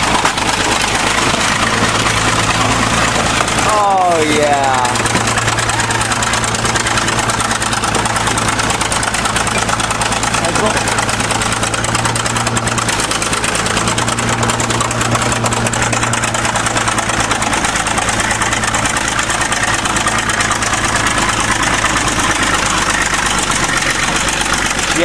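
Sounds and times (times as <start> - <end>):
bulldozer diesel engine clattering: 0.0 - 25.0.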